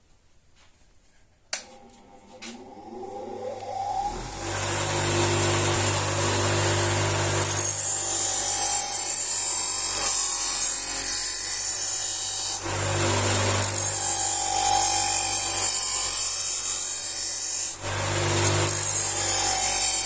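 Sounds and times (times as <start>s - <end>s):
bench grinder motor hum: 1.6s - 20.0s.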